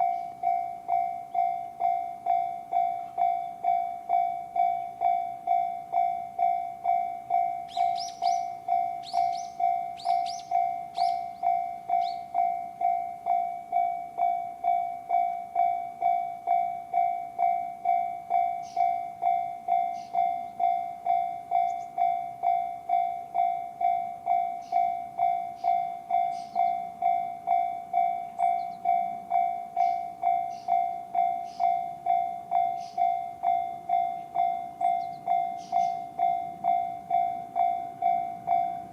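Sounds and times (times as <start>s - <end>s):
electronic crossing warning bell: 0.0s - 38.9s
train rumble: 0.0s - 38.9s.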